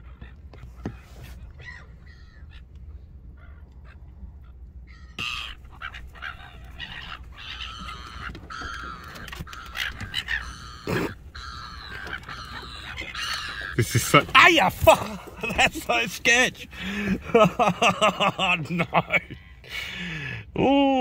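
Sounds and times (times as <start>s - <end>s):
gulls calling: 0.0s - 21.0s
low steady hum: 0.0s - 21.0s.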